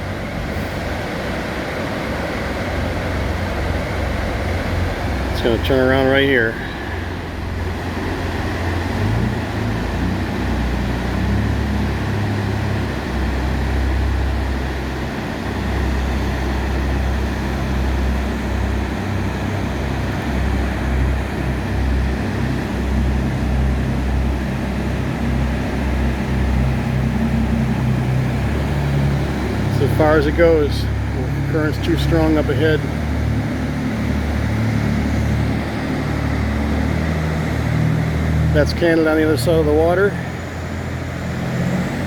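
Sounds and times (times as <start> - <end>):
boat engine running: 0.0 - 42.0
river rapids roaring: 0.0 - 42.0.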